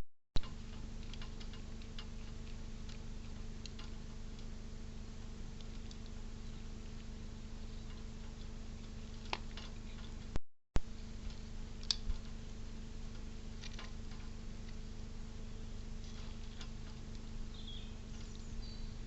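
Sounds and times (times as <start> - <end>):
low electrical hum: 0.4 - 19.0.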